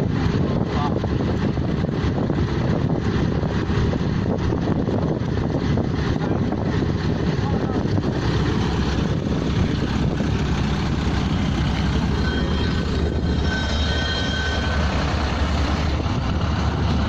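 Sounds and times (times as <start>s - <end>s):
pneumatic drilling rig rumble: 0.0s - 17.0s.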